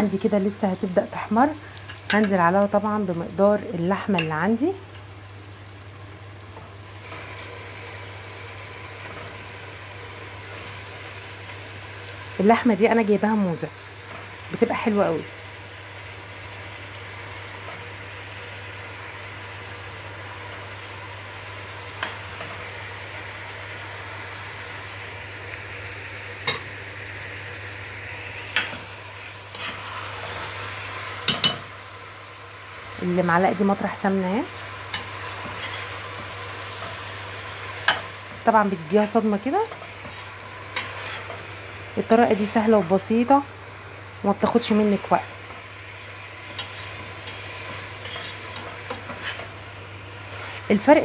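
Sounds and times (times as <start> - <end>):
onions sizzling in ghee: 0.0 - 51.0.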